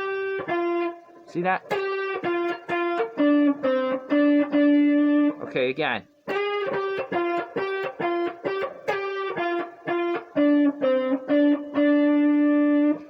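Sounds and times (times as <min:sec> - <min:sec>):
guitar playing blues lick: 0:00.0 - 0:05.5, 0:06.2 - 0:13.0.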